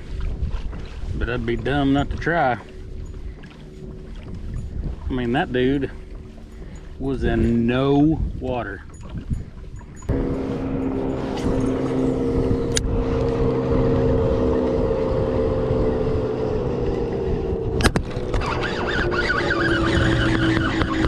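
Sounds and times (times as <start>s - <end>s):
motor droning hum: 0.0s - 21.0s.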